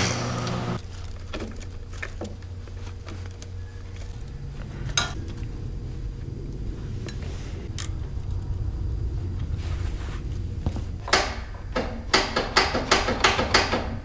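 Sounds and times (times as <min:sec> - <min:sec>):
steady low rumble: 0:01.7 - 0:13.0.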